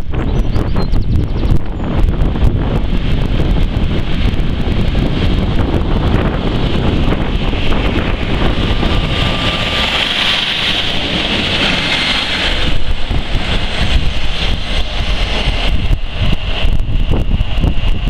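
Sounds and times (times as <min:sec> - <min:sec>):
train passing with rumble and hiss: 0:00.0 - 0:18.0
wind buffeting microphone: 0:00.0 - 0:18.0.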